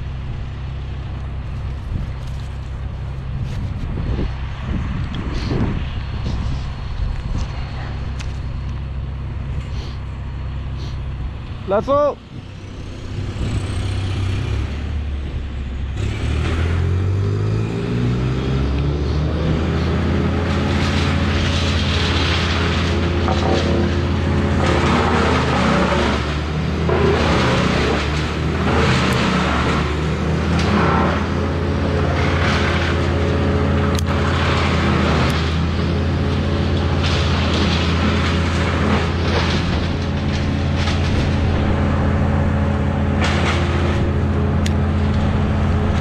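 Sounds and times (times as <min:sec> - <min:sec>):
large engine running under throttle: 0:00.0 - 0:46.0.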